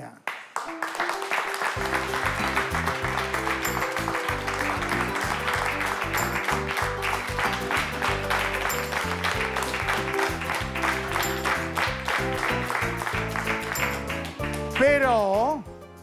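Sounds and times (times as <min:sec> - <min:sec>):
people clapping: 0:00.0 - 0:15.6
background music with bass line: 0:01.8 - 0:16.0.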